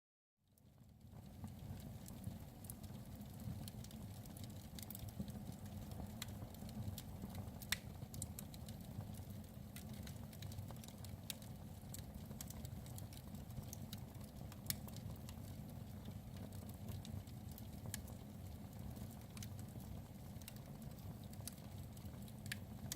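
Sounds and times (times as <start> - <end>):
low fire rumble: 0.6 - 22.9
fire log crackling: 0.9 - 22.9.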